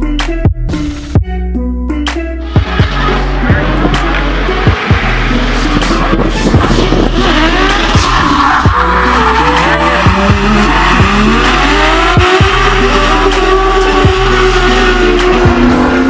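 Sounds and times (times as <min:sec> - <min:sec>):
music with steady beat: 0:00.0 - 0:16.0
car engine revving: 0:02.4 - 0:16.0
tyre squeal: 0:02.5 - 0:16.0.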